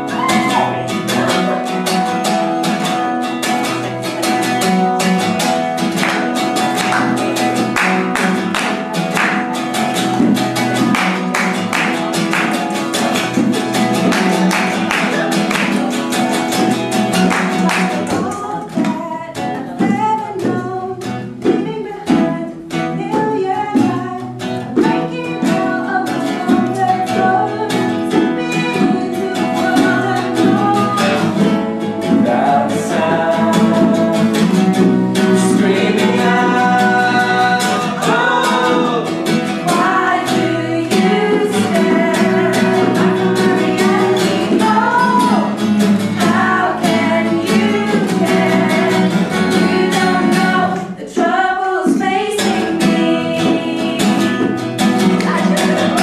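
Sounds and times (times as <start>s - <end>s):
acoustic guitar song with singing: 0.0s - 56.0s.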